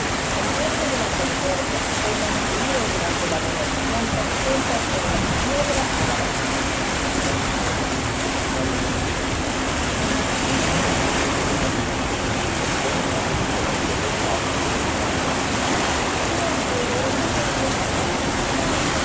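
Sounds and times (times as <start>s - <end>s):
rushing water in boat wake: 0.0s - 19.0s.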